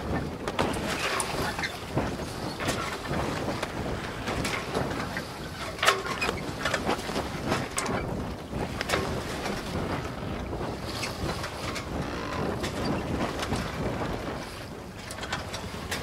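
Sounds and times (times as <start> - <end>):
rushing sea water: 0.0 - 16.0
wind buffeting microphone: 0.0 - 16.0.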